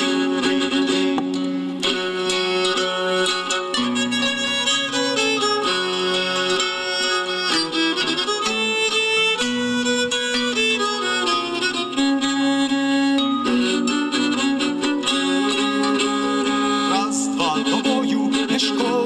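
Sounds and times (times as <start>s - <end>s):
fiddle: 0.0s - 19.0s
plucked lute strings: 0.0s - 19.0s
wooden pipe: 0.0s - 19.0s.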